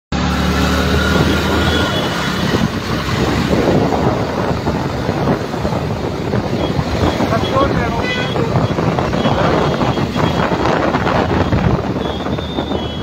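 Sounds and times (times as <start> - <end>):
motorcycle engine: 0.1 - 13.0
traffic hum: 0.1 - 13.0
wind buffeting microphone: 0.6 - 13.0.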